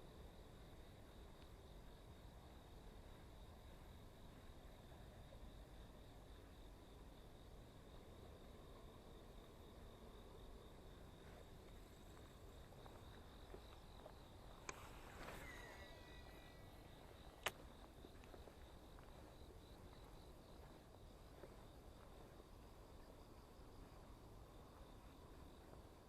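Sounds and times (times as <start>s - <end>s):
faint insect buzz: 0.4s - 25.8s.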